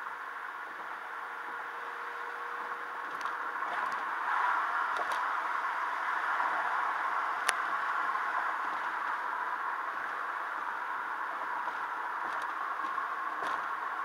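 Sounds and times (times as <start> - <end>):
road noise inside a car: 0.0 - 14.0.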